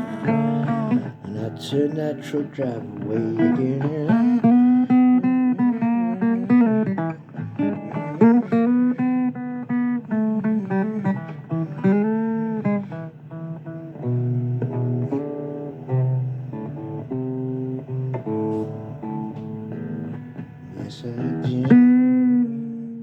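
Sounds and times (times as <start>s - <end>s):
person singing: 0.0s - 13.0s, 13.6s - 23.0s
blues guitar: 0.0s - 23.0s.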